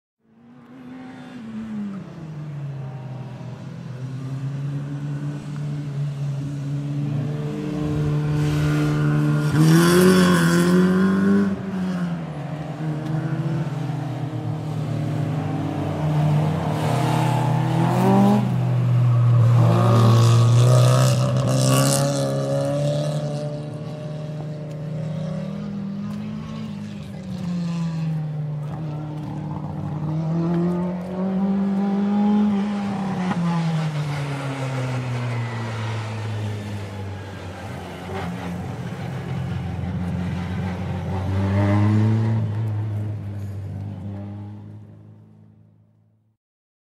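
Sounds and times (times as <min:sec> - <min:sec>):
racing car engines revving: 0:00.2 - 0:45.4.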